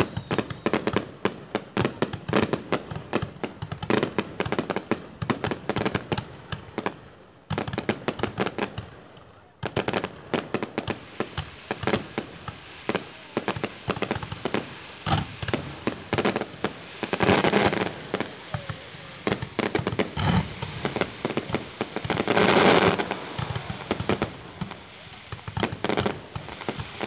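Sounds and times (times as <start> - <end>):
fireworks popping and banging: 0.0 - 27.0.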